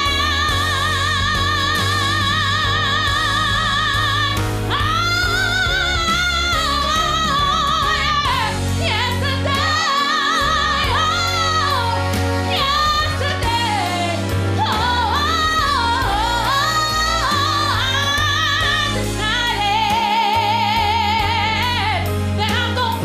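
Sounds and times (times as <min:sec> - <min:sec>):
band with steady bass line: 0:00.0 - 0:23.0
lead vocal singing with vibrato: 0:00.0 - 0:23.0.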